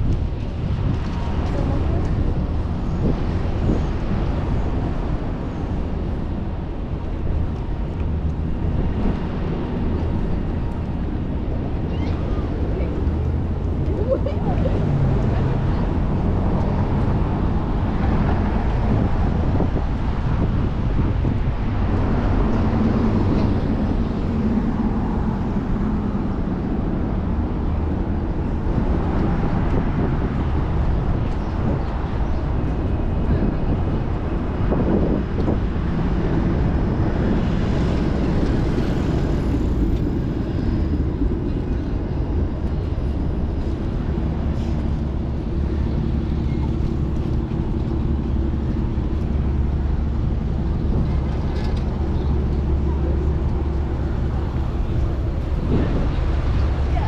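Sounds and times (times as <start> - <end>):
city traffic rumble: 0.0 - 57.0.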